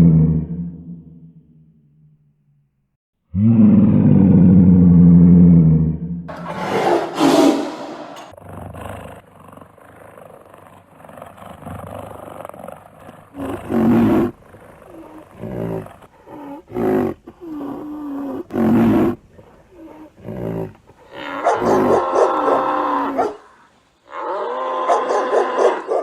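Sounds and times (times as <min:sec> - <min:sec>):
big cat roaring and growling: 0:00.0 - 0:01.2, 0:03.3 - 0:26.0.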